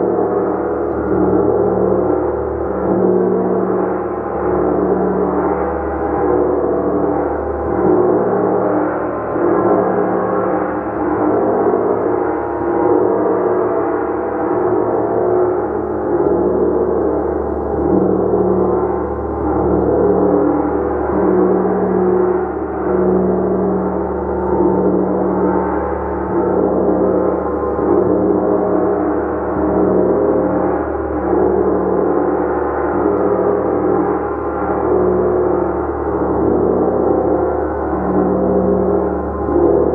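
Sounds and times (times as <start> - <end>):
gong played continuously: 0.0 - 39.9.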